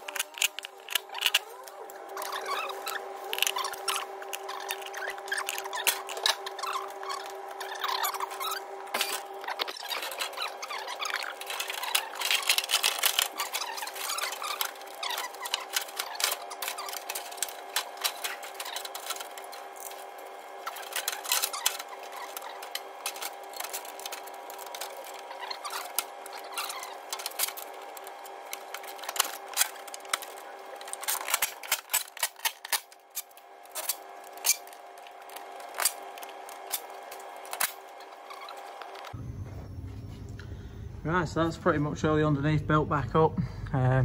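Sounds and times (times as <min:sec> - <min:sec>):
steady workshop hum: 0:00.0 - 0:44.0.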